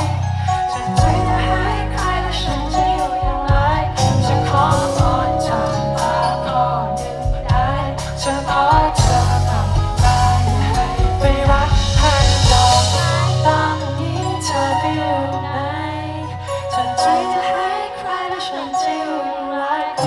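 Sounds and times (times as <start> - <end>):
live band playing pop-rock ballad: 0.0 - 19.2
person singing: 0.0 - 20.0.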